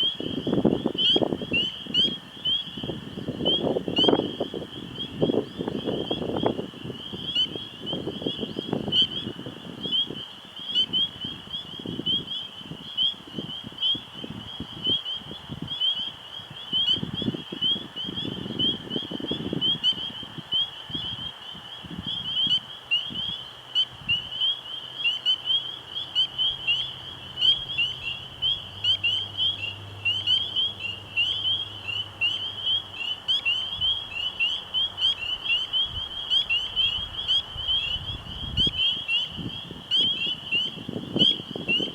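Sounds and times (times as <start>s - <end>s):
wind rumbling on microphone: 0.0s - 24.5s, 26.4s - 41.9s
frogs peeping: 0.0s - 41.9s.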